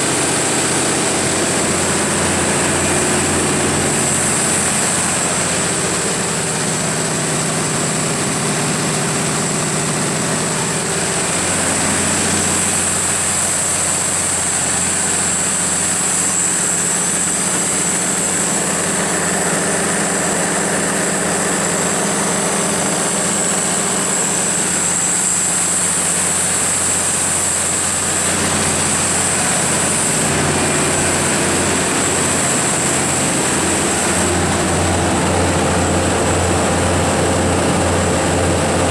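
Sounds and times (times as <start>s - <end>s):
diesel generator engine running: 0.0s - 38.9s
steady high whine: 0.0s - 38.9s.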